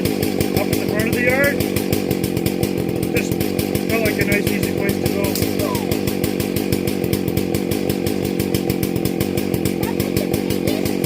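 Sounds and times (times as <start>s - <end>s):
chainsaw running: 0.0s - 11.0s.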